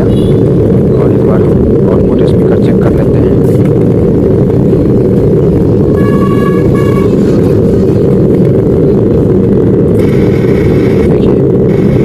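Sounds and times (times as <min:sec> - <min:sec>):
speaker low rumbling noise: 0:00.0 - 0:12.0.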